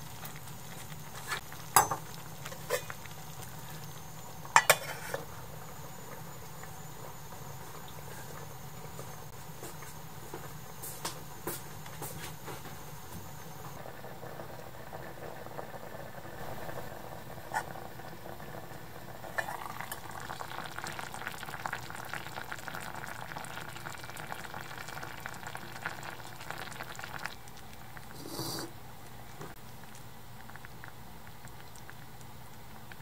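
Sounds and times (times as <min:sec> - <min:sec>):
pot bubbling on a burner: 0:00.0 - 0:33.0.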